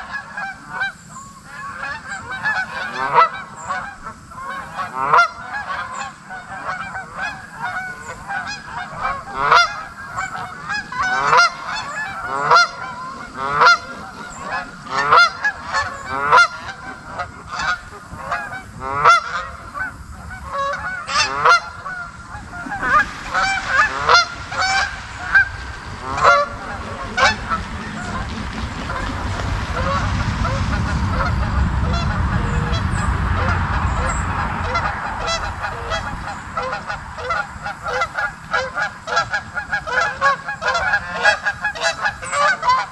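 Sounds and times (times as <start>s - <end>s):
geese honking: 0.0s - 42.9s.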